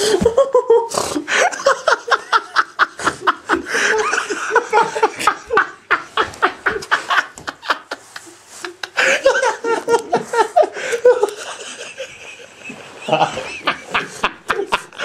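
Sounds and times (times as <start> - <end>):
person laughing hard: 0.0 - 15.0.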